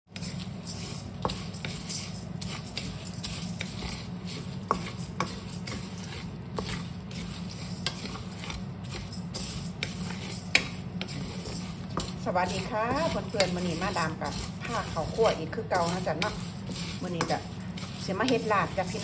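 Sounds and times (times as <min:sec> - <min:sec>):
rice grains rattling in a pan: 0:00.1 - 0:19.0
steady low hum: 0:00.1 - 0:19.0.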